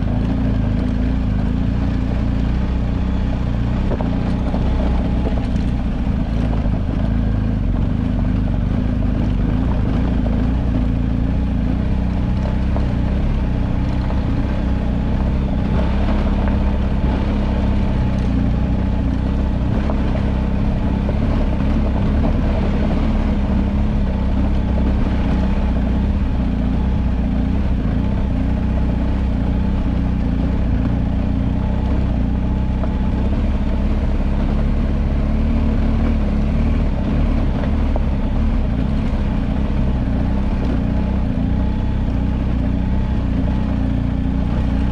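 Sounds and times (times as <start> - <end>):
rushing road noise: 0.0 - 44.9
vehicle engine running: 0.0 - 44.9.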